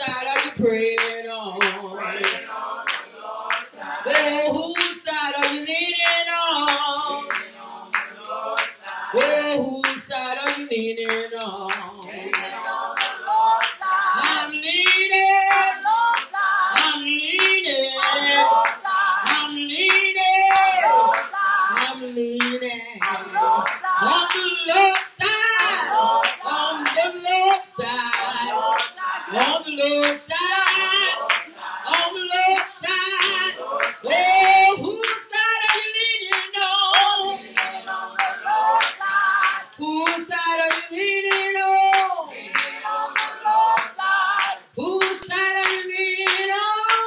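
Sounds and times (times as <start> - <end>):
woman singing gospel song: 0.0 - 2.4, 3.5 - 47.0
hand claps: 0.0 - 27.0, 27.8 - 47.0.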